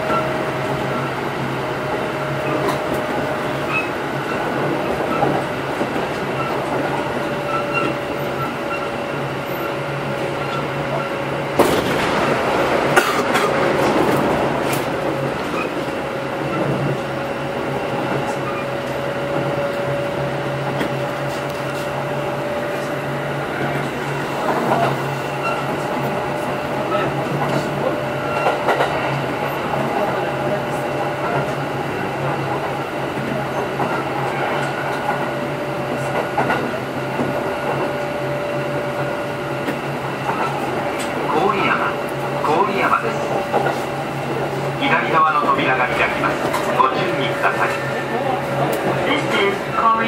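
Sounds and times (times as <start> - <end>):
electric train hum and whine: 0.0 - 50.0
rail noise: 0.0 - 50.0.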